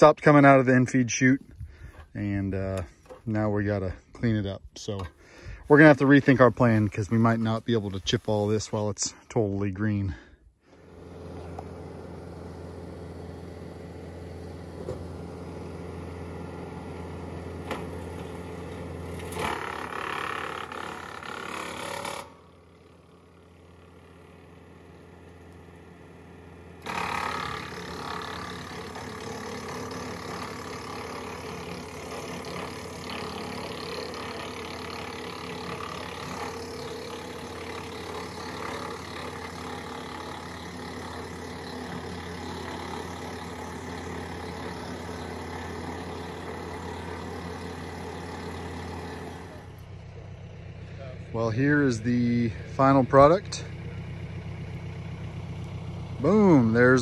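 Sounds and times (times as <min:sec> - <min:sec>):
tractor running: 0:00.0 - 0:57.0
wood chipper chewing branches: 0:00.0 - 0:57.0.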